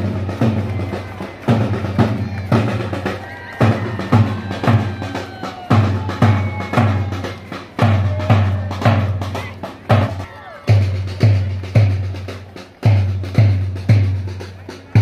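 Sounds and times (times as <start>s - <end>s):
marching bass drum booming: 0.0s - 15.0s.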